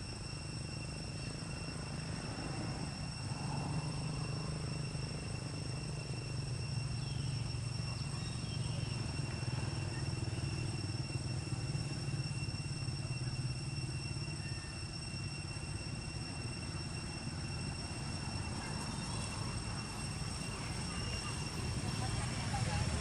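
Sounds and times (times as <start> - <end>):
faint high-pitched tones: 0.0 - 23.0.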